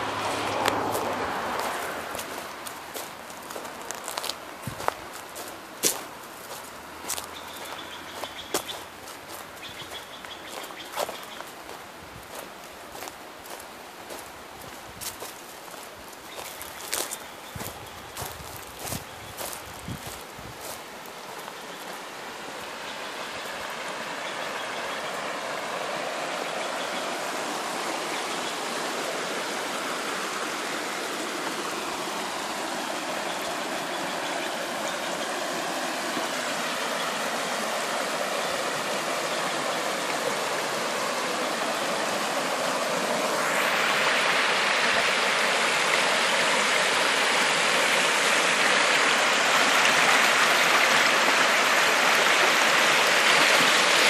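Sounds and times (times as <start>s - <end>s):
creek rushing over rocks: 0.0s - 54.0s.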